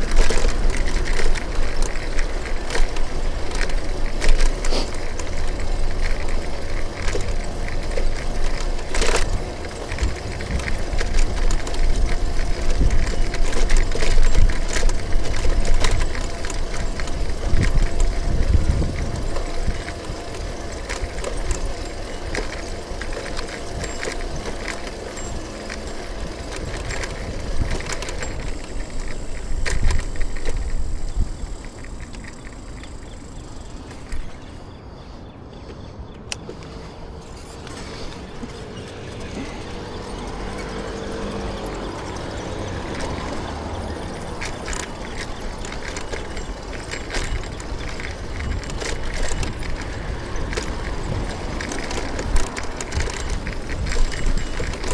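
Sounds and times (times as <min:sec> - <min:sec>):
bicycle clicks and rattles: 0:00.0 - 0:54.9
road and wind noise: 0:00.0 - 0:54.9.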